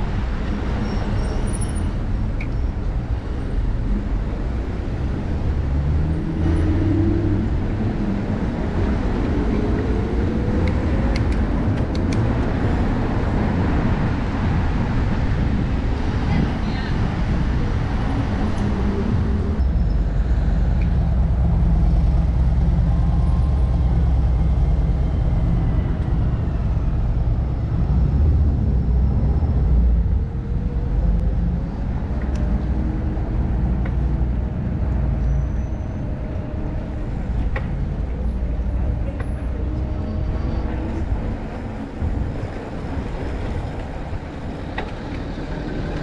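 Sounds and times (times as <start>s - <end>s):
car traffic: 0.0s - 46.0s
wind rumbling on microphone: 0.0s - 46.0s.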